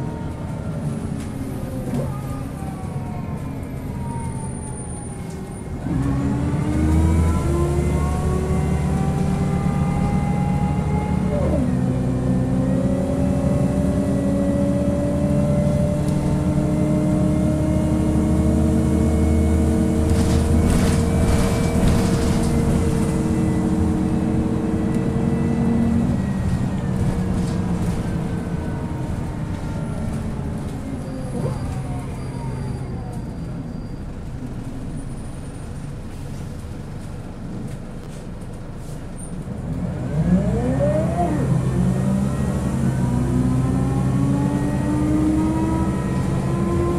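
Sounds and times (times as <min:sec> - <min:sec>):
bus diesel engine under load: 0:00.0 - 0:46.9.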